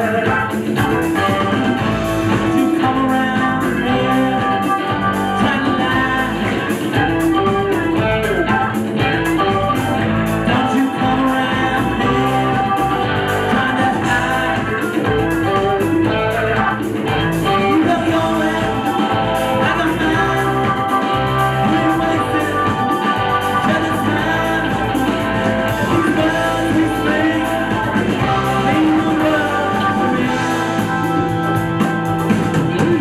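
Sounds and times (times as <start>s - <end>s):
electric guitar: 0.0s - 33.0s
live band music: 0.0s - 33.0s
person singing: 0.0s - 33.0s.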